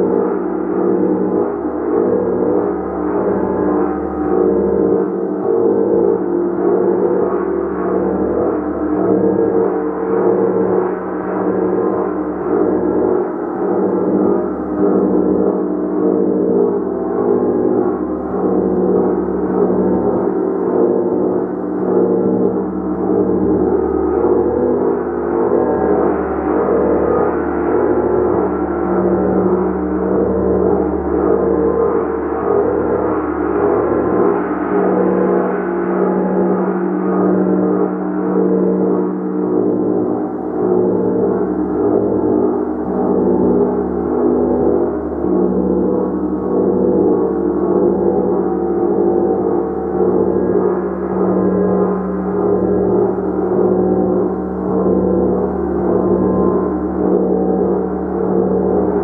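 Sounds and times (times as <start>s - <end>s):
large gong ringing: 0.0s - 59.0s.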